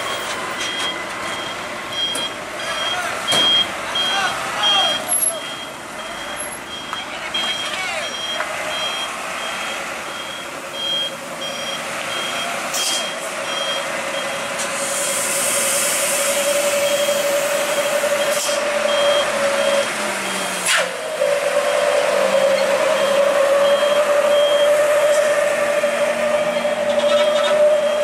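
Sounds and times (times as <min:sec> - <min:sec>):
reversing alarm beeping: 0:00.0 - 0:14.6, 0:16.3 - 0:20.6, 0:21.5 - 0:28.0
heavy machinery engine whining: 0:00.0 - 0:28.0.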